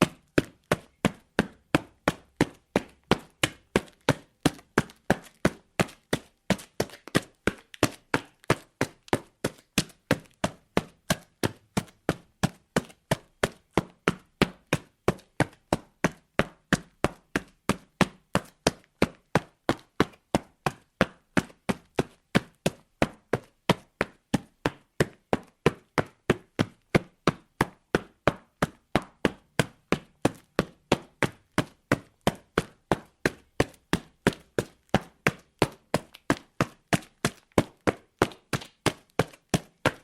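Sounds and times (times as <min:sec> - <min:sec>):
footsteps running on concrete: 0:00.0 - 0:40.0.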